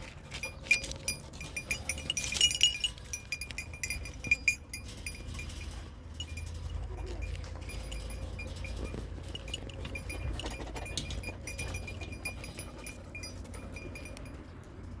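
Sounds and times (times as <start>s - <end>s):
metallic clinks and tinkles: 0.3s - 15.0s.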